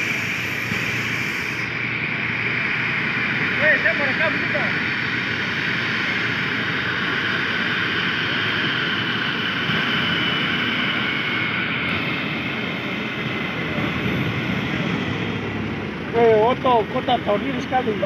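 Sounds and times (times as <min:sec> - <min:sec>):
jet engines whining and roaring: 0:00.0 - 0:18.0.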